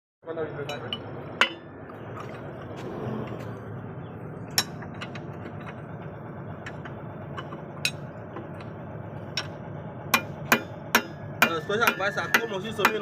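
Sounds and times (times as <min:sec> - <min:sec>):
low background hum: 0:00.2 - 0:13.0.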